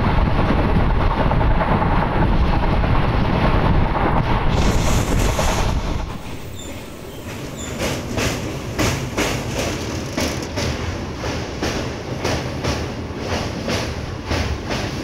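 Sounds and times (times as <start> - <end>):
clickety-clack of train wheels: 0.0 - 15.0
train wheels rumbling on track: 0.0 - 15.0.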